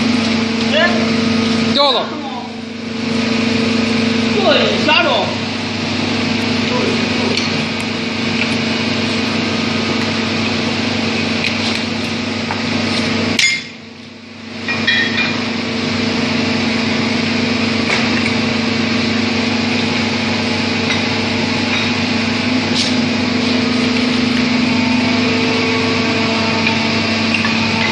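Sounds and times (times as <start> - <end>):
drilling rig humming: 0.0 - 27.9.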